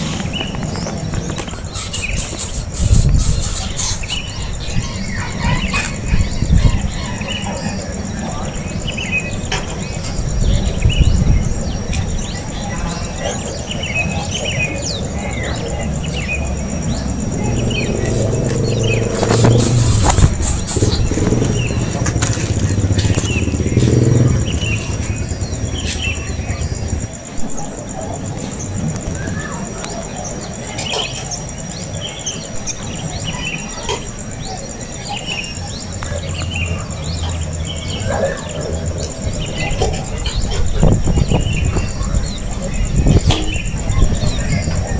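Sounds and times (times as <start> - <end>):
high insect trill: 0.0 - 44.9
small birds chirping: 0.0 - 44.9.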